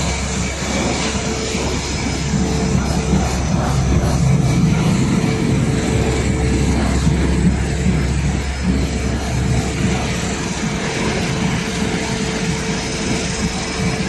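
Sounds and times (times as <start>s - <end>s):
faint steady whine: 0.0s - 14.0s
low machine hum: 0.0s - 14.0s
machine mechanical clatter: 0.0s - 14.0s.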